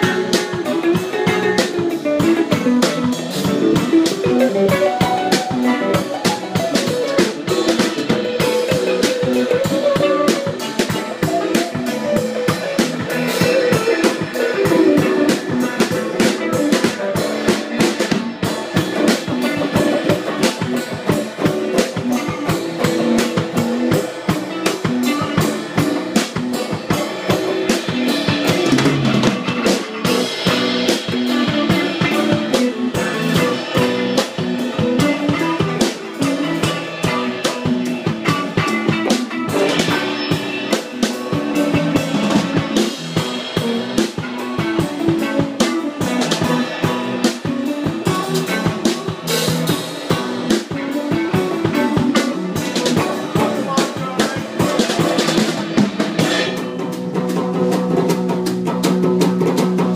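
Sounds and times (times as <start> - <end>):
distorted electric guitar riff: 0.0 - 59.9
drum kit played fast: 0.0 - 59.9.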